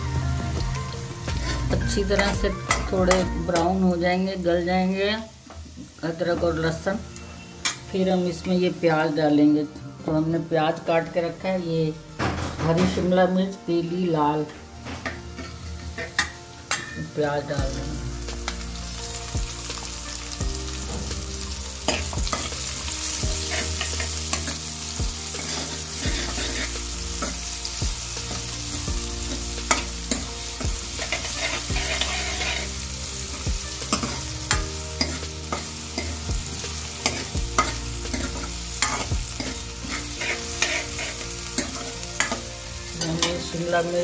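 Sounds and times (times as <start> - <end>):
onions sizzling in hot oil: 0.0 - 44.0.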